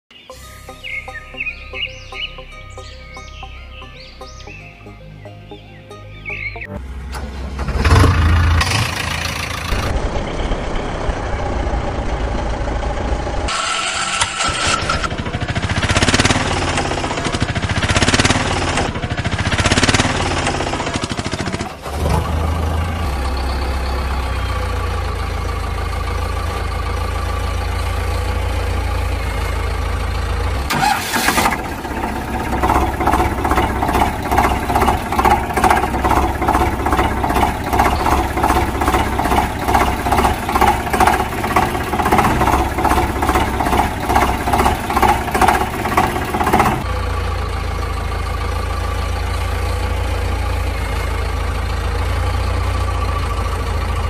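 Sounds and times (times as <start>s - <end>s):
engine idling: 5.5s - 54.0s.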